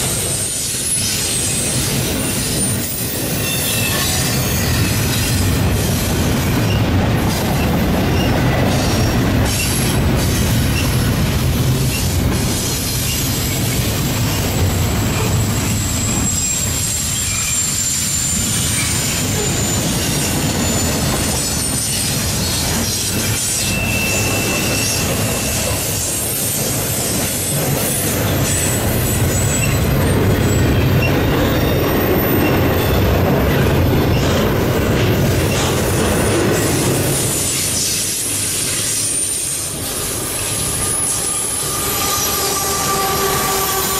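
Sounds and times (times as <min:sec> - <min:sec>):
high wheel squeals: 0:00.0 - 0:11.2, 0:12.7 - 0:34.4, 0:37.0 - 0:43.9
train wheels rumbling on rails: 0:00.0 - 0:43.9.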